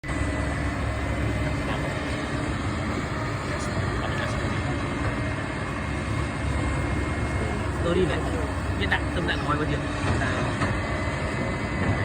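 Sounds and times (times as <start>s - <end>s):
excavator mechanical hum: 0.0s - 12.0s.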